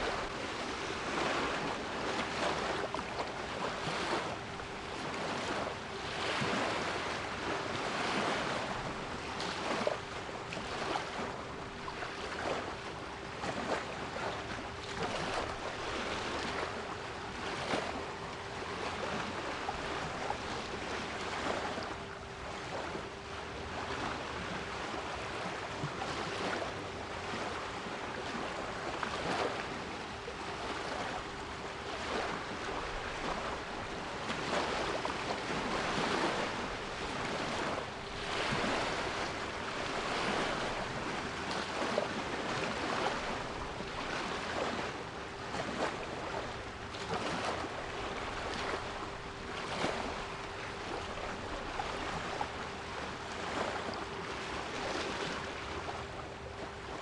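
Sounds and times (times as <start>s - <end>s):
sea waves washing: 0.0s - 12.8s, 23.7s - 57.0s.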